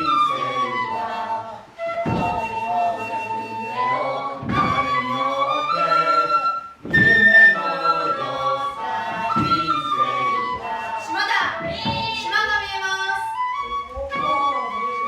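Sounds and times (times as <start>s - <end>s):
flute-like instrumental music: 0.0s - 15.0s.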